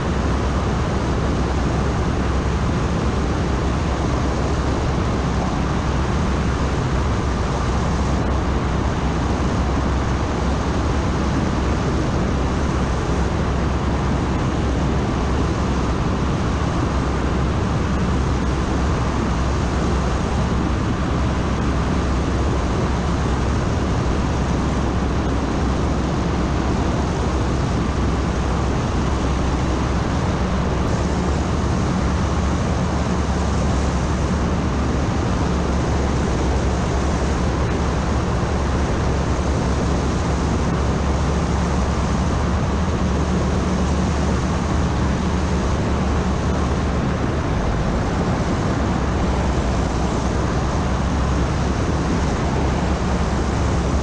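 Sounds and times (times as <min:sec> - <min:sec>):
rushing airflow: 0:00.0 - 0:54.0
trike engine and propeller: 0:00.0 - 0:54.0.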